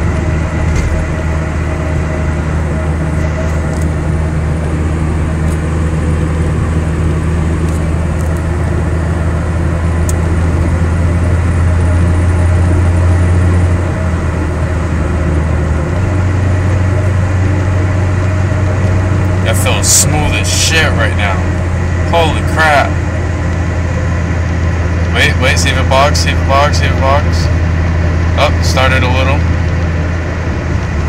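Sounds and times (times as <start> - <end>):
car engine drone: 0.0 - 31.0
road noise: 0.0 - 31.0.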